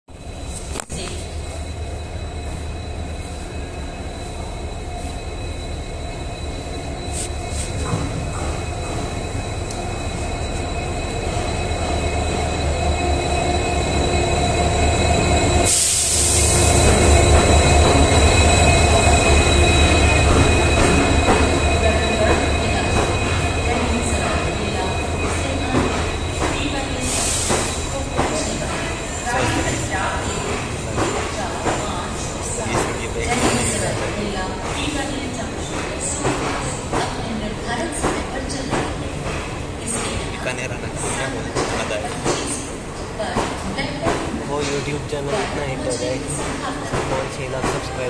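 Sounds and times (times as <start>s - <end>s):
train rumbling: 0.1s - 48.0s
wheels squealing on rail: 0.1s - 48.0s.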